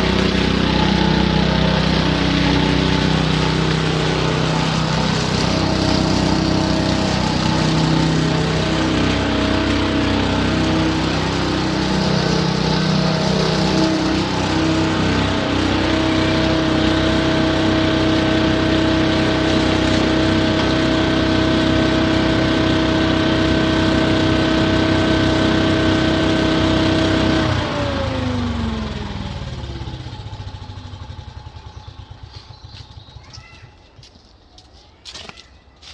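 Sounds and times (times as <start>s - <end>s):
leaf vacuum engine running: 0.0s - 33.8s.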